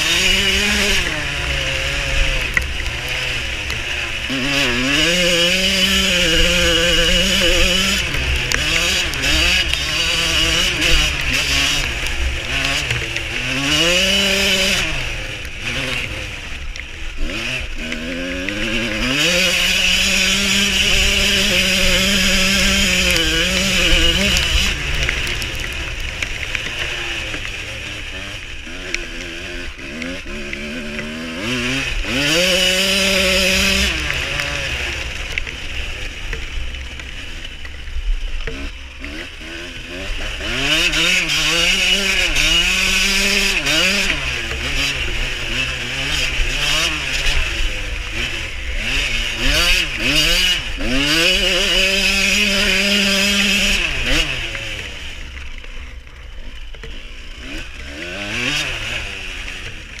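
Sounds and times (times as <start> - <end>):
two-stroke engine revving: 0.0 - 60.0.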